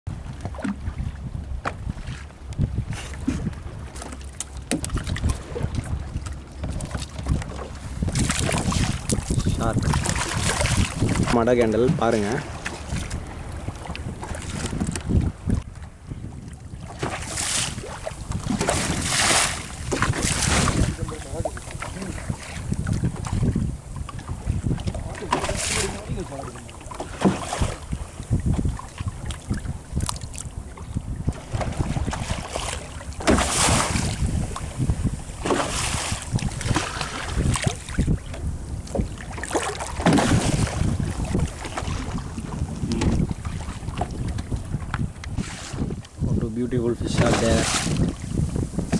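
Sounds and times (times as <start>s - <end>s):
sea waves splashing against boat: 0.1s - 48.9s
wind rumble on microphone: 0.1s - 48.9s.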